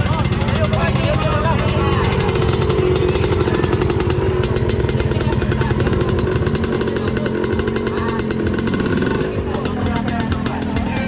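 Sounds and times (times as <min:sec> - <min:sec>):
dirt bike engines buzzing: 0:00.0 - 0:11.0.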